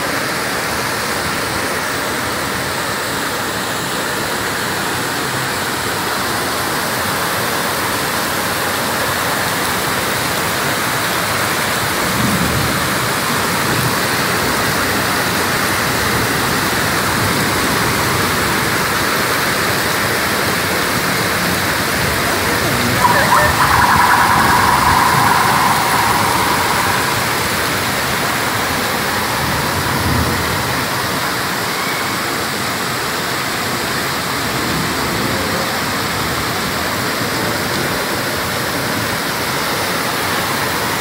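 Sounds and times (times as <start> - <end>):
heavy rain on flooded street: 0.0 - 41.0.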